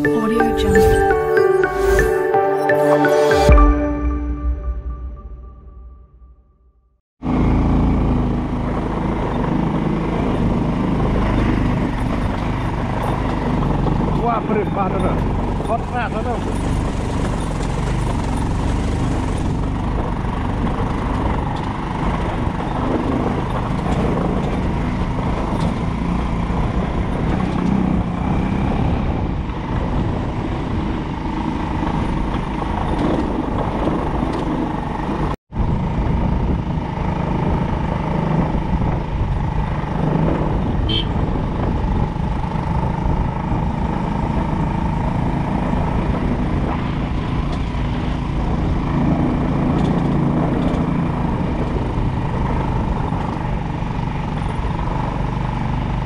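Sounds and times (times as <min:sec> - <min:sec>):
vehicle engine and road noise: 0:07.2 - 0:56.0.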